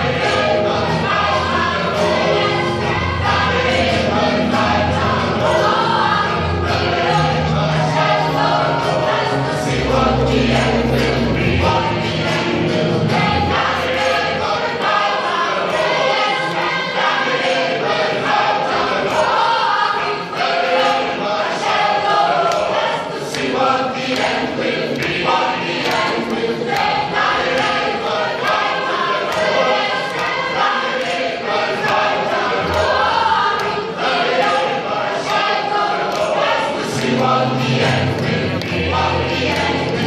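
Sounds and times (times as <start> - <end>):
gospel choir singing: 0.0 - 40.0.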